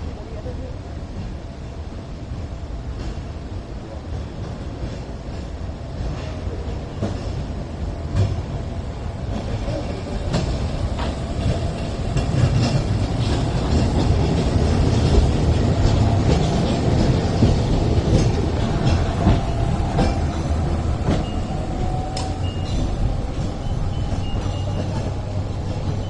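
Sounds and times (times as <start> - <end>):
steel wheels rumbling on track: 0.0 - 26.0.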